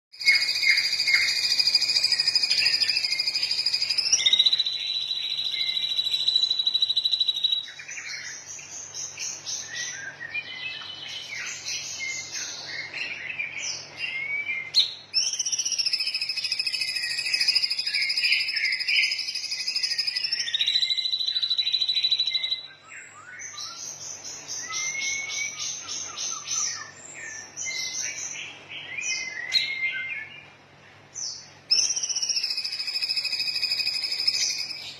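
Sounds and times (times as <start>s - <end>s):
songbird trills and chirps: 0.1s - 34.9s.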